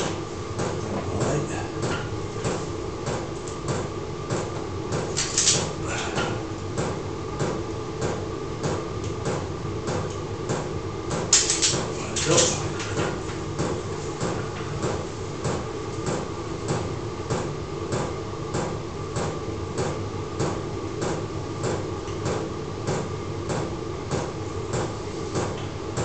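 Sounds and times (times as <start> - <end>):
heater hum: 0.0 - 26.0.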